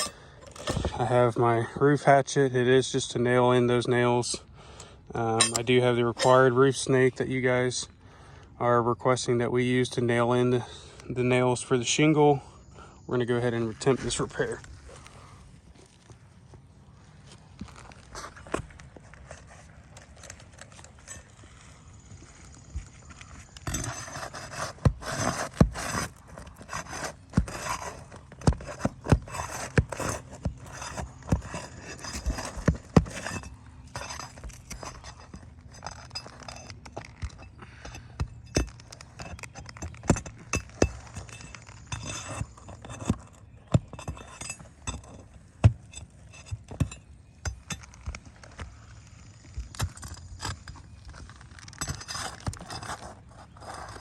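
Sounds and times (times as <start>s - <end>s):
scraping on shingles: 0.0s - 1.8s, 4.3s - 8.4s, 13.2s - 54.0s.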